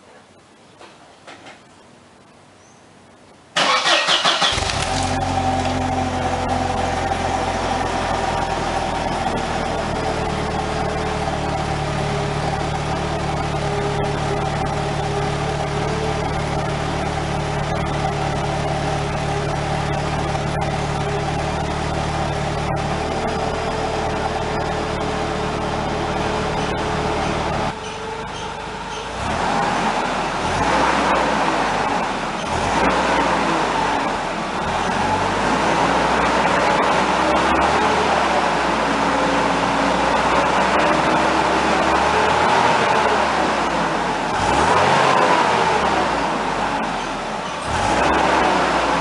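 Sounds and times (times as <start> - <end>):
car engine starting and idling: 3.6 - 49.0.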